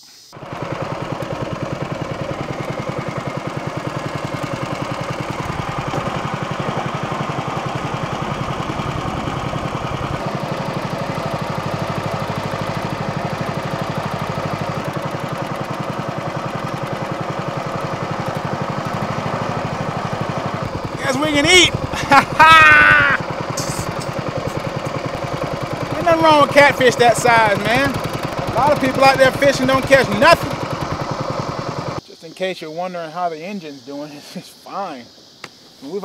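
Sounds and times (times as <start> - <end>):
small boat motor running: 0.3 - 32.0.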